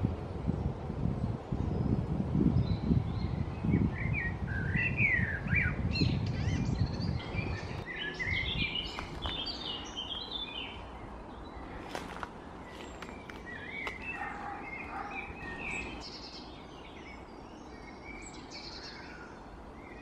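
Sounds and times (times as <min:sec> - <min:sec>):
low rumble on microphone: 0:00.0 - 0:16.1
songbirds chirping and singing: 0:01.2 - 0:20.0.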